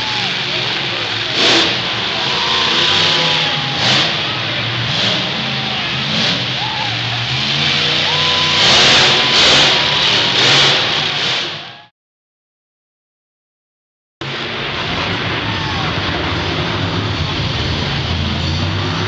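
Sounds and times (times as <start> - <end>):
arena crowd noise: 0.0 - 11.9, 14.2 - 19.0
monster truck engine revving: 0.0 - 11.9, 14.2 - 19.0.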